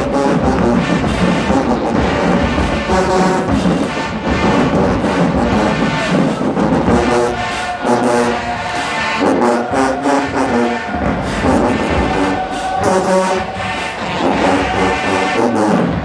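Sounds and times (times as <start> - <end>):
drum hits: 0.0 - 16.0
marching band brass chords: 0.0 - 16.0.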